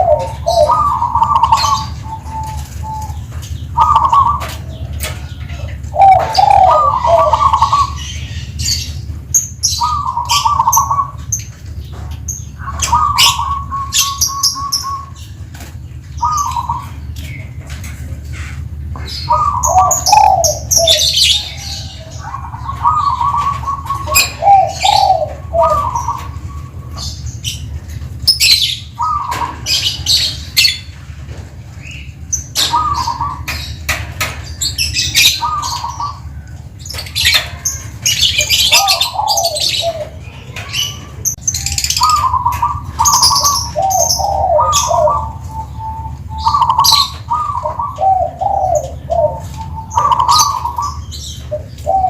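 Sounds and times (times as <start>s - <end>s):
dove cooing: 0.0s - 52.0s
small birds chirping: 0.0s - 52.0s
steady low hum: 0.0s - 52.0s.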